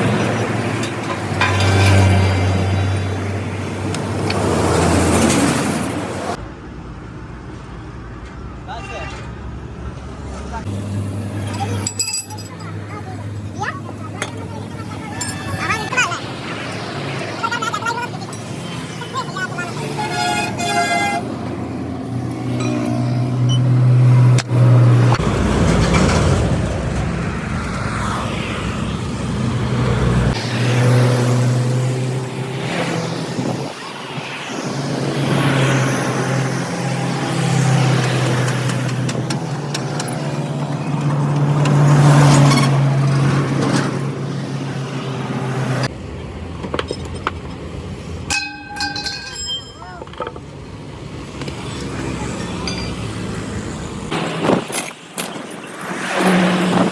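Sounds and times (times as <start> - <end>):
road traffic: 0.0 - 56.9.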